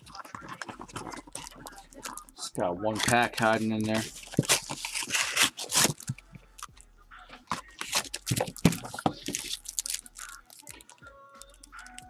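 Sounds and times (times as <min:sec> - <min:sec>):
plastic pack crinkling and scraping: 0:00.0 - 0:06.2, 0:07.4 - 0:12.0.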